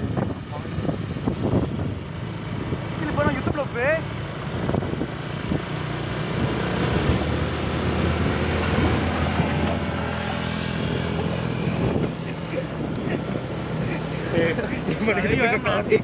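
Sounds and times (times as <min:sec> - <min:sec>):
motor scooter engine running: 0:00.0 - 0:15.8
road and wind noise: 0:00.0 - 0:16.0.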